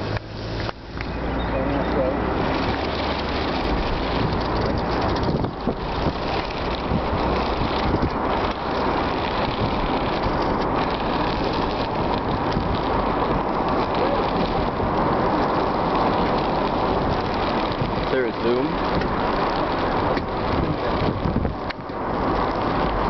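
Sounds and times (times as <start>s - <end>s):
car road and tyre noise: 0.0s - 23.0s
wind buffeting microphone: 2.2s - 23.0s.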